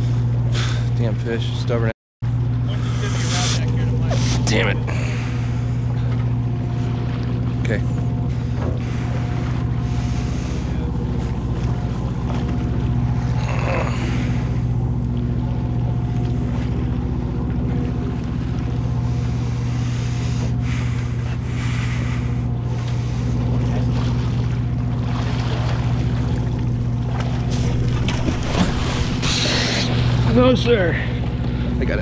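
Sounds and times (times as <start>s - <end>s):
boat engine humming: 0.0s - 32.0s
water washing along hull: 0.0s - 32.0s.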